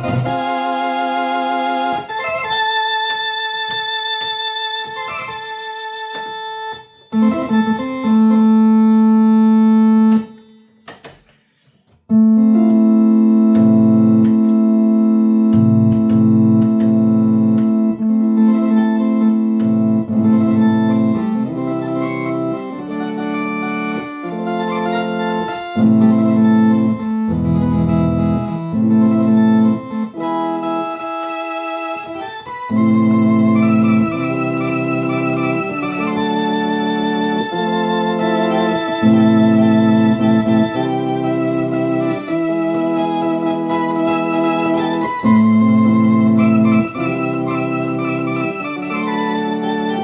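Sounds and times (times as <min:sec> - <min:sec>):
organ chords with vibrato: 0:00.0 - 0:10.9, 0:12.1 - 0:50.0.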